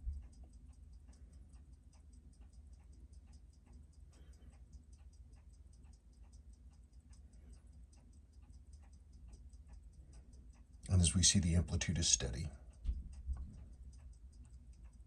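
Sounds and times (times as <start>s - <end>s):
watch ticking faintly: 0.0s - 15.0s.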